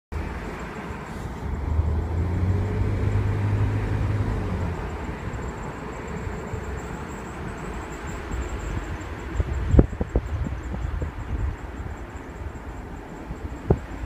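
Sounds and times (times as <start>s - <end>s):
road noise: 0.1s - 14.0s
low brake tone: 0.2s - 14.0s.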